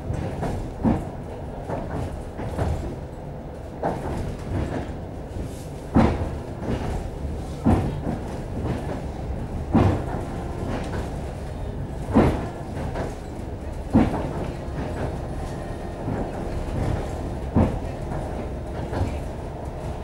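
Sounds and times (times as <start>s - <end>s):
train carriage rumble: 0.0s - 20.0s.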